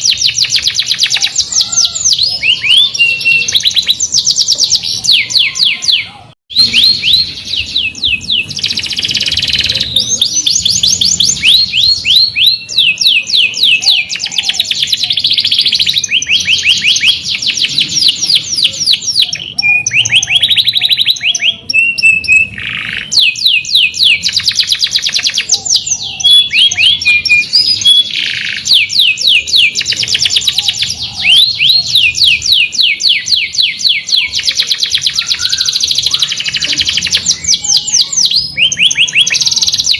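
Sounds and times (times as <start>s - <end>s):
canary singing trills and chirps: 0.0s - 39.9s.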